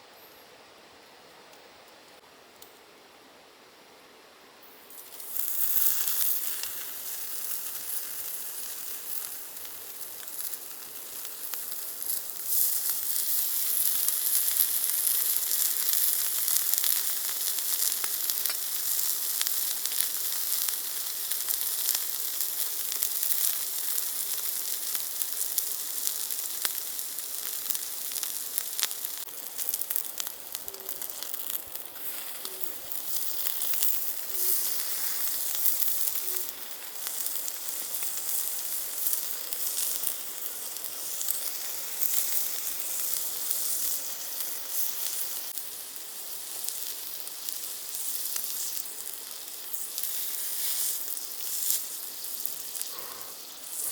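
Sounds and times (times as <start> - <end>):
meat sizzling on a grill: 4.9 - 53.9.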